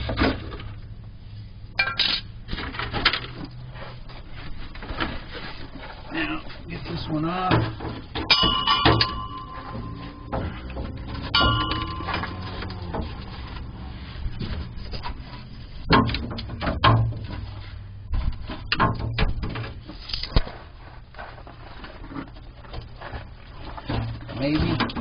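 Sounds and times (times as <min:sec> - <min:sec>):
metal clanks and scraping: 0:01.7 - 0:25.0.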